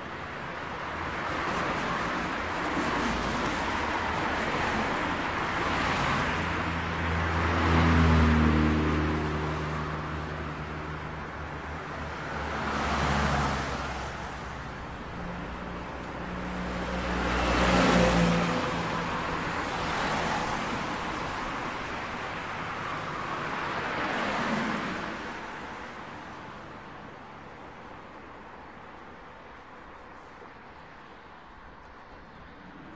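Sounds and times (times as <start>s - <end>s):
cars passing by: 0.0s - 32.9s.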